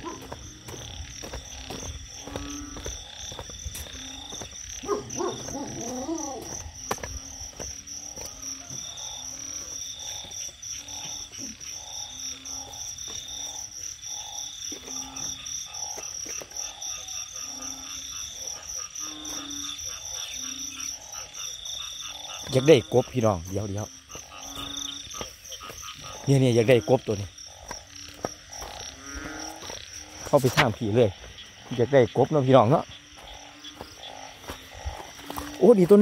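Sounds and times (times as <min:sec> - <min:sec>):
frogs croaking: 0:00.0 - 0:36.0
high insect trill: 0:00.0 - 0:36.0.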